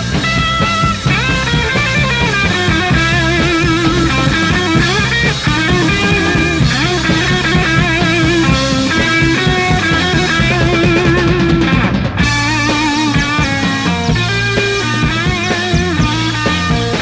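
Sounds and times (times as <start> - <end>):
bass and drum backing: 0.0 - 17.0
psychedelic rock with guitar: 0.0 - 17.0.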